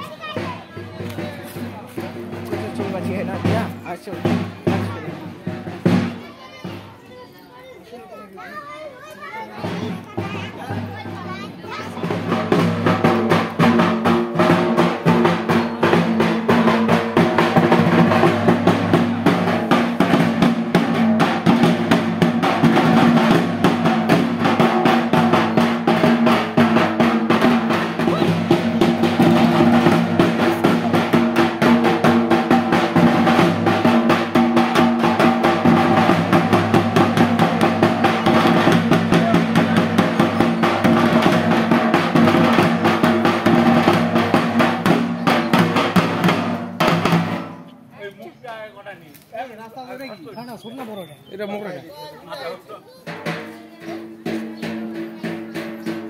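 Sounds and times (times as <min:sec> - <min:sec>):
fast drumming: 0:00.0 - 0:06.9, 0:09.5 - 0:47.7, 0:53.0 - 0:56.0.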